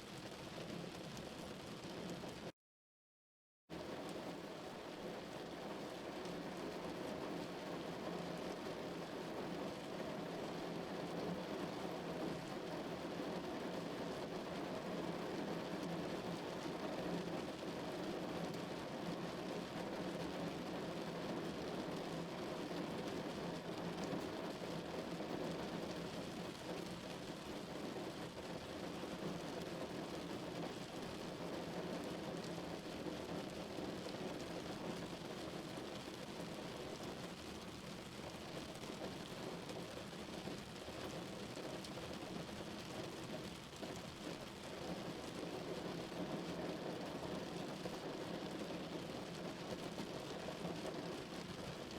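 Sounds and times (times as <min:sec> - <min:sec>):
rain drumming on car roof: 0:00.1 - 0:02.5, 0:03.8 - 0:51.9.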